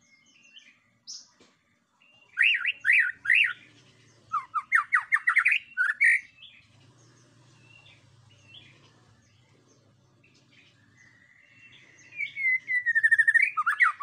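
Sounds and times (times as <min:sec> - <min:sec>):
bird singing whistled notes: 0:00.0 - 0:01.4, 0:02.0 - 0:14.0.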